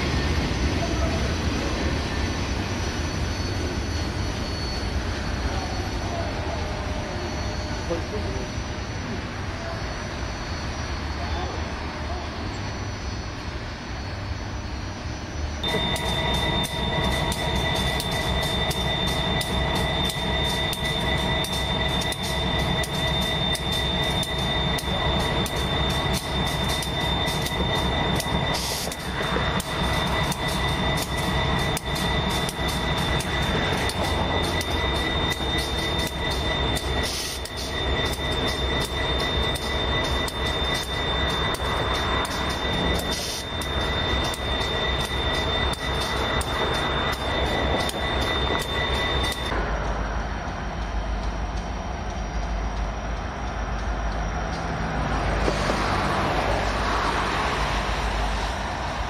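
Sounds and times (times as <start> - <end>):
railcars rumbling: 0.0 - 59.0
train wheels squealing on rails: 0.0 - 59.0.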